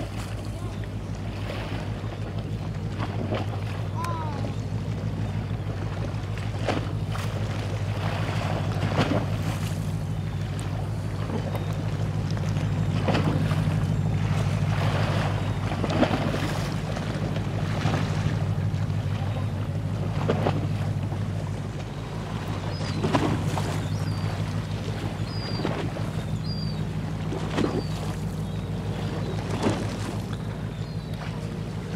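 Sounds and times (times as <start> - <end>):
ship diesel engine throbbing: 0.0 - 31.9
water washing along hull: 0.0 - 31.9.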